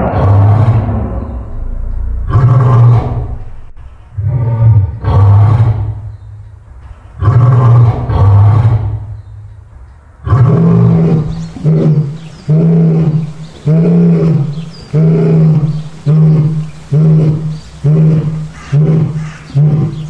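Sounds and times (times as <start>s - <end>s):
lion roaring: 0.0s - 6.3s, 7.0s - 9.3s, 10.2s - 20.0s
lion grunting calls: 0.0s - 9.5s, 10.2s - 20.0s.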